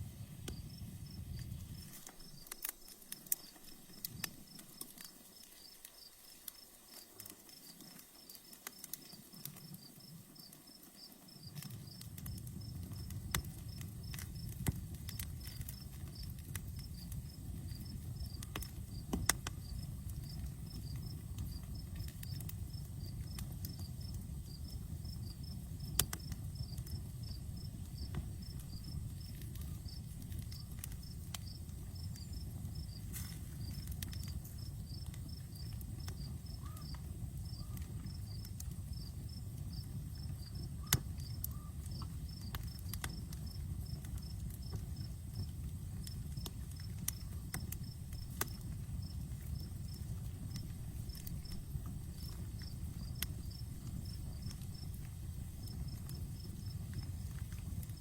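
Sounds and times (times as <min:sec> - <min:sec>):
campfire rushing: 0:00.0 - 0:58.0
crickets chirping: 0:00.0 - 0:58.0
fire crackles and pops: 0:00.0 - 0:58.0.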